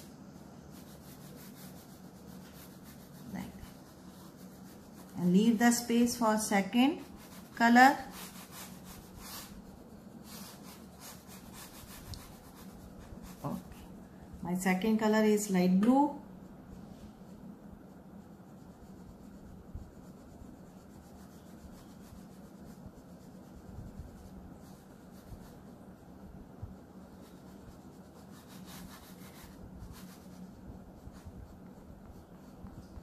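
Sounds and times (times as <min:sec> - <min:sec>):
oil pastel scratching on paper: 0:00.0 - 0:33.0.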